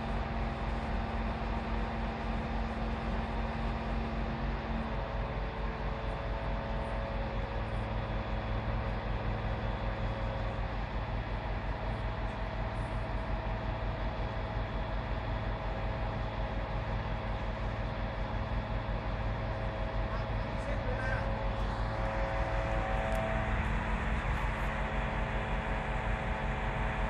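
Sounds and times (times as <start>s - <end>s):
truck engine and hydraulics humming: 0.0s - 27.0s.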